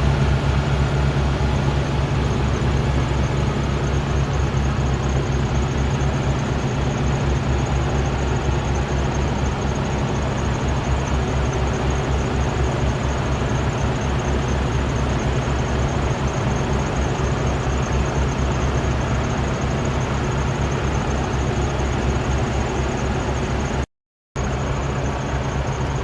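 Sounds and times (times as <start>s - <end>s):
vacuum excavator truck running: 0.0s - 23.8s.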